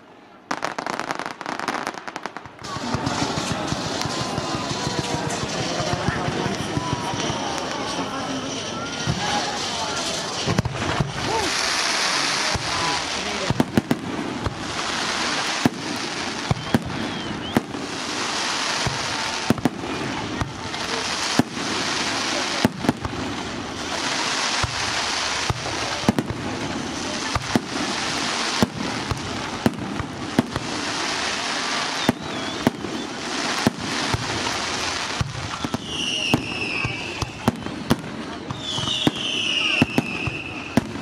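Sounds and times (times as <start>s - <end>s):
fireworks bursting with bangs: 0.0s - 41.0s.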